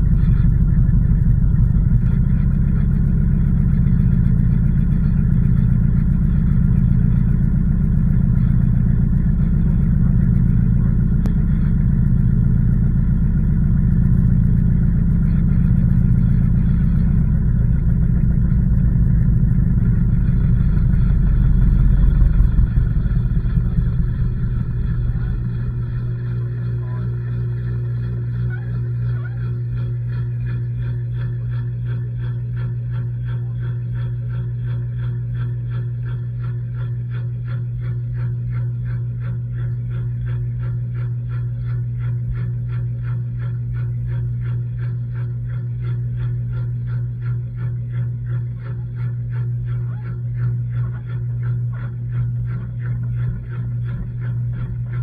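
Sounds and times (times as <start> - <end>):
washing machine rumbling: 0.0 - 55.0.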